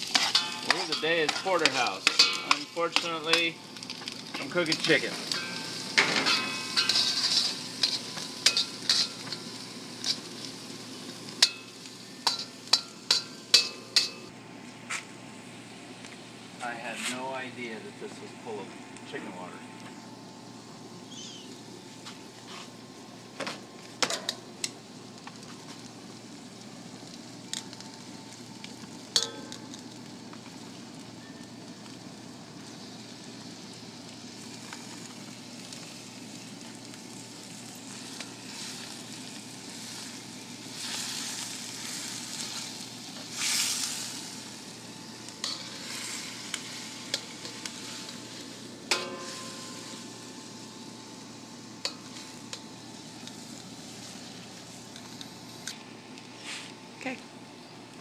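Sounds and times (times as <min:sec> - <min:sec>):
chicken and onions sizzling in wok: 0:00.0 - 0:14.4, 0:20.2 - 0:55.7.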